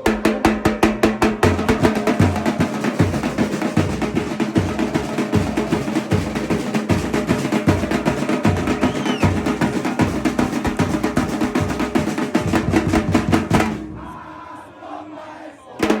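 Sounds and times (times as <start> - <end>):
fast snare and percussion: 0.0 - 14.0, 15.8 - 16.0
drum section playing samba groove: 0.0 - 14.3, 15.8 - 16.0.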